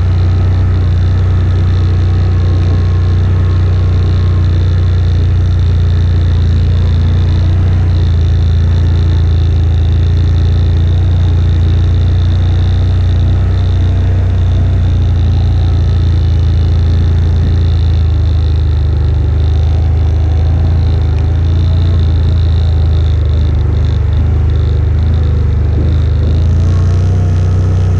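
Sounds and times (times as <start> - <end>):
atv engine droning: 0.0 - 27.9.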